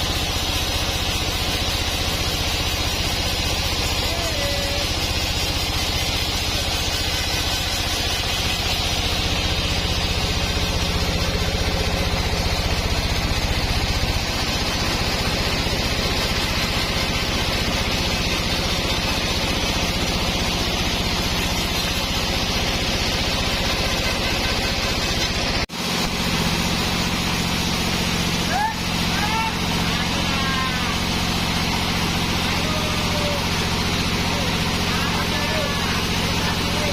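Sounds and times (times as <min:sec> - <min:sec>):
machine noise: 0:00.0 - 0:36.9
sawmill machinery running: 0:00.0 - 0:36.9.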